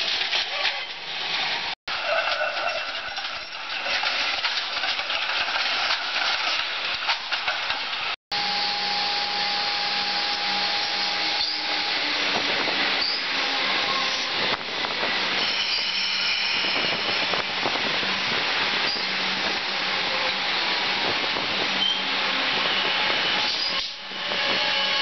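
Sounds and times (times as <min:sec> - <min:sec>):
street traffic noise: 0:00.0 - 0:25.0
electric train whine: 0:04.0 - 0:25.0.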